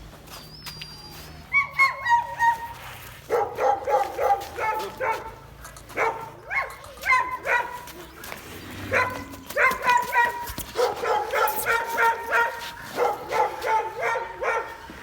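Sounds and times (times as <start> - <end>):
dog barking and yipping: 1.4 - 8.2, 8.8 - 14.9.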